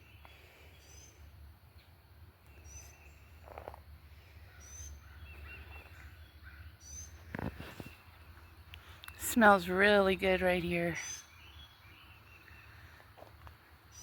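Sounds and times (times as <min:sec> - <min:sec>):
bird chirping: 0:00.0 - 0:03.8, 0:04.4 - 0:13.1
quiet twittering: 0:00.0 - 0:14.0.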